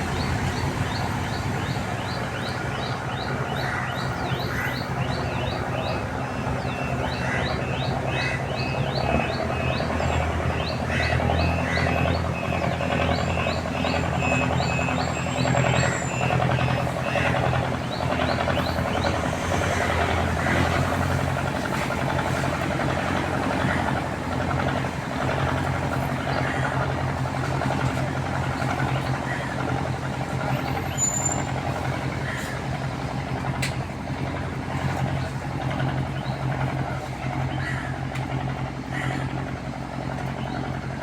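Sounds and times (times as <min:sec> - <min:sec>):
engine humming: 0:00.0 - 0:41.0.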